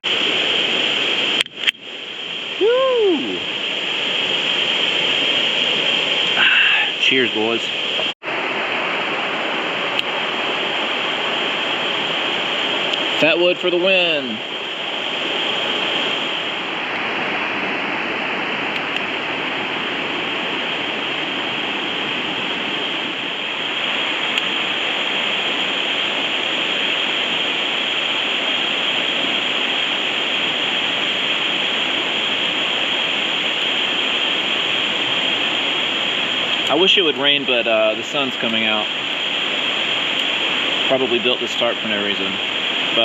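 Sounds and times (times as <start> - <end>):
creek water rushing: 0.0 - 43.0.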